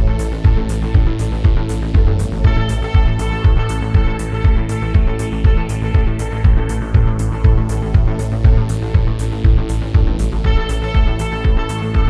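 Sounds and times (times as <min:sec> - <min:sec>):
kick drum: 0:00.0 - 0:12.0.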